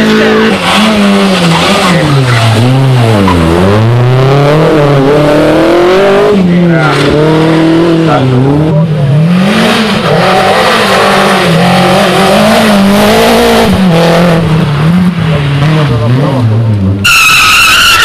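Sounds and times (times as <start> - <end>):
rally car engines revving: 0.0 - 18.0.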